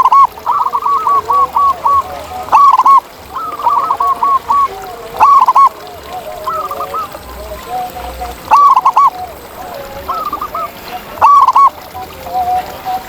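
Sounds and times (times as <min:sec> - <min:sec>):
distant doves cooing: 0:00.0 - 0:13.0
dove cooing: 0:00.0 - 0:13.0.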